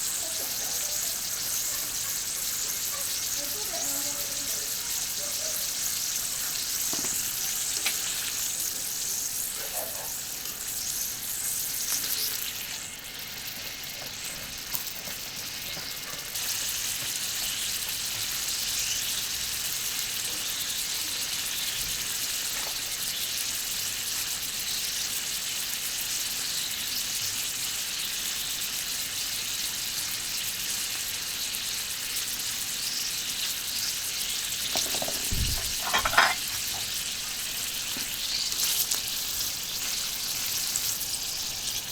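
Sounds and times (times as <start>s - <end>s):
steak sizzling on a griddle: 0.0s - 41.9s.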